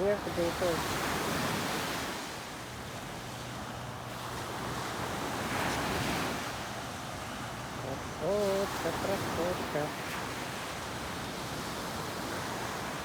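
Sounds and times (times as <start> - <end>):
ocean surf washing on beach: 0.0 - 13.0.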